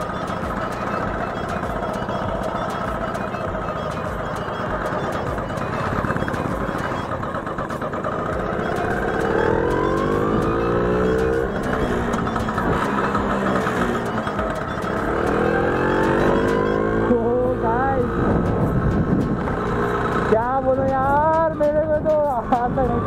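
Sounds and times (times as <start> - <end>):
road and wind noise: 0.0 - 23.0
scooter engine revving: 0.0 - 23.0.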